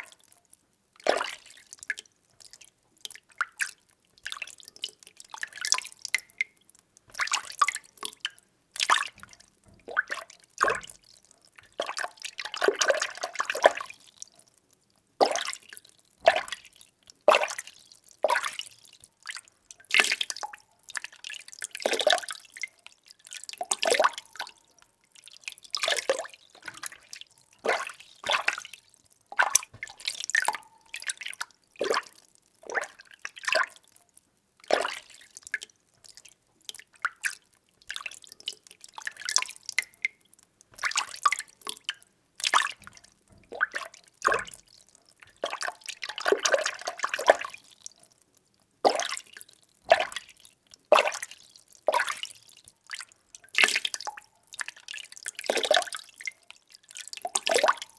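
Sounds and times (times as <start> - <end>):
water sloshing in a container: 1.0 - 14.5, 15.2 - 33.9, 34.6 - 48.2, 48.8 - 57.9.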